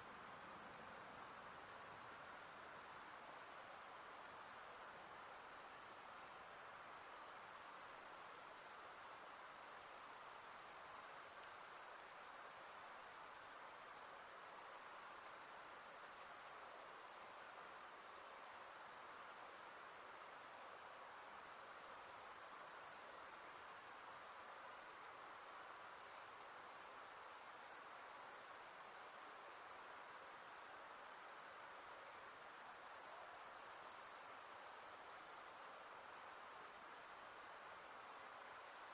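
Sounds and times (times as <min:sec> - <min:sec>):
faint forest ambience hiss: 0:00.0 - 0:38.9
night insects trilling: 0:00.0 - 0:38.9.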